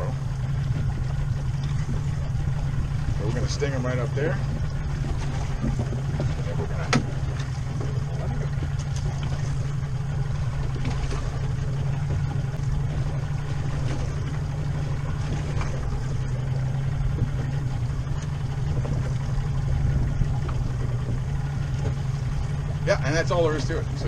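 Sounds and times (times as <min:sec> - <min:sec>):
boat engine humming: 0:00.0 - 0:24.0
wind and water hiss: 0:00.0 - 0:24.0.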